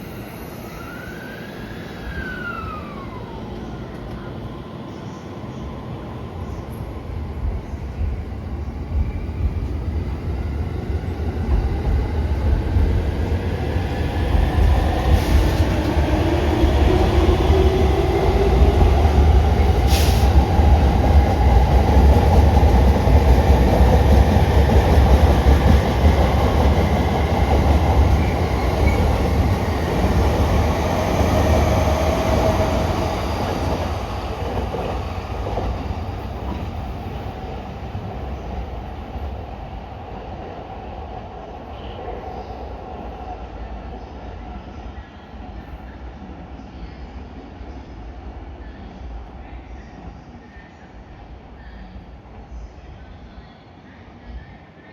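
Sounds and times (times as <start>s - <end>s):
rumbling wheel and rail noise: 1.6s - 50.8s.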